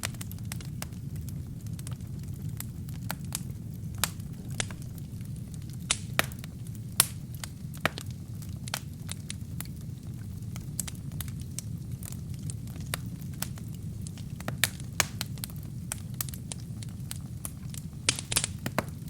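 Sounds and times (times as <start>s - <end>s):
crackles and pops of burning wood: 0.0s - 19.0s
wood fire rumbling: 0.0s - 19.0s.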